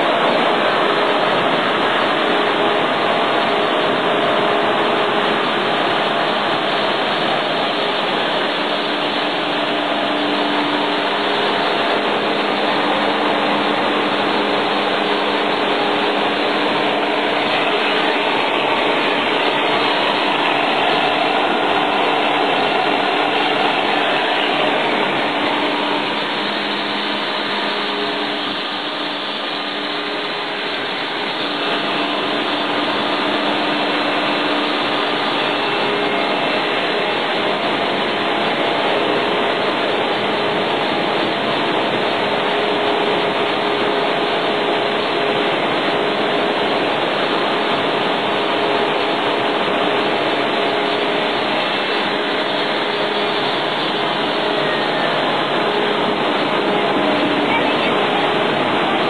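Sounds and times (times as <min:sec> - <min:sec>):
faint hum tones: 0:00.0 - 0:59.0
machine running: 0:00.0 - 0:59.0.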